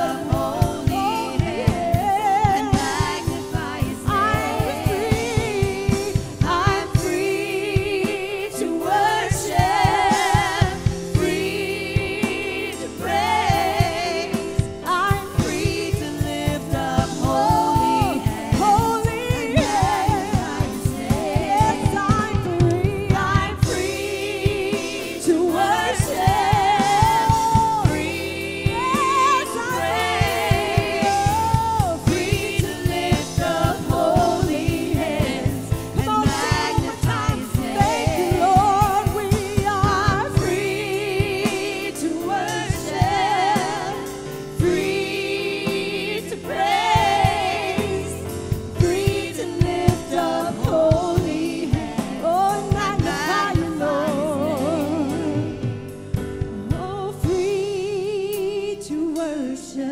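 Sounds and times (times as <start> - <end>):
band playing steady beat: 0.0 - 57.7
women singing gospel song: 0.0 - 59.9.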